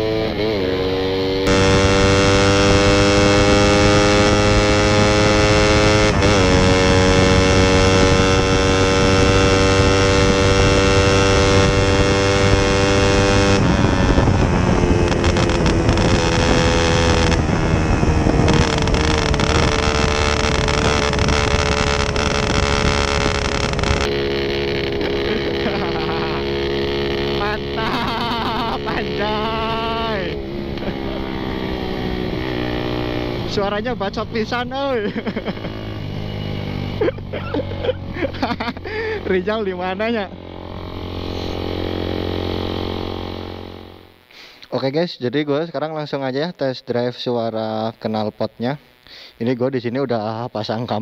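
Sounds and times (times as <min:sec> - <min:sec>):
motorcycle engine revving raspy: 0:00.0 - 0:44.3.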